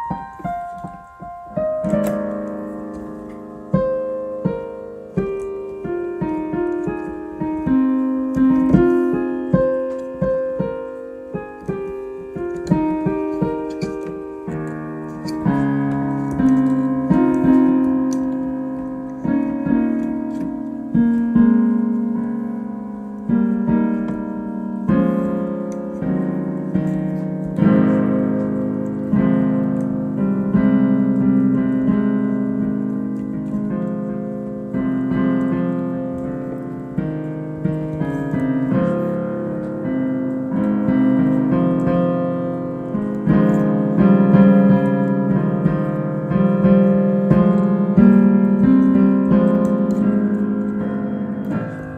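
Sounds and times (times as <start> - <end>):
solo piano: 0.0 - 51.9.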